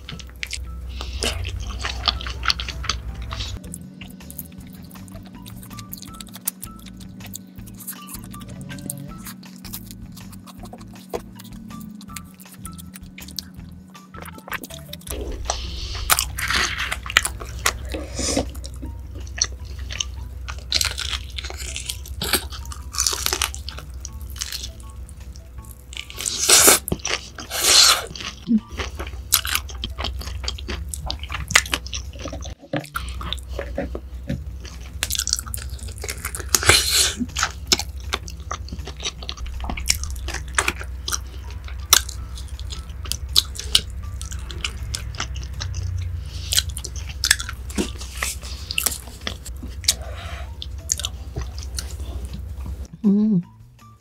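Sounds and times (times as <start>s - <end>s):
crunchy food chewing: 0.0s - 52.9s.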